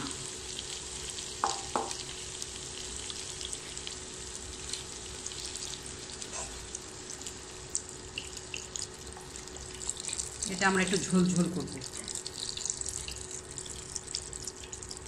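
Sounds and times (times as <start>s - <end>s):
faint steady hum: 0.0s - 15.0s
vegetables sizzling in oil: 0.0s - 15.0s.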